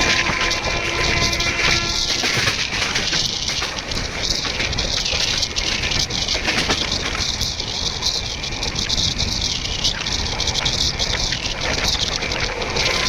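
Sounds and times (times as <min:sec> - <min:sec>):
train rumbling and rattling: 0:00.0 - 0:13.0
train wheel clicks: 0:00.0 - 0:13.0.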